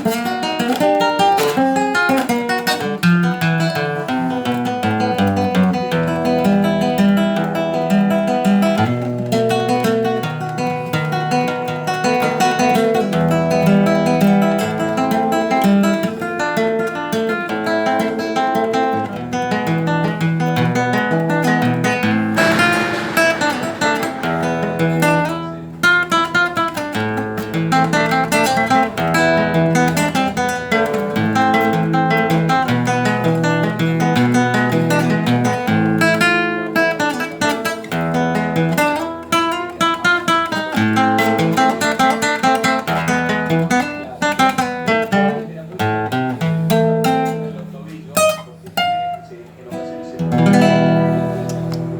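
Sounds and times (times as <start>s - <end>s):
acoustic guitar instrumental: 0.0s - 51.9s.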